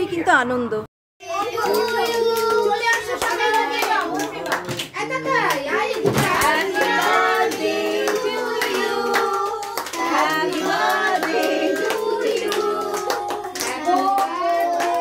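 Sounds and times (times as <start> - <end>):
group singing: 1.2 - 4.6, 5.2 - 15.0
hand clapping: 1.5 - 15.0.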